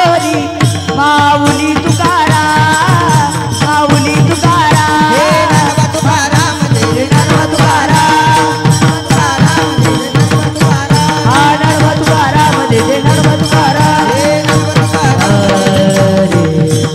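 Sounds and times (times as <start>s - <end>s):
barrel drum beat: 0.0s - 16.9s
hand cymbals: 0.0s - 16.9s.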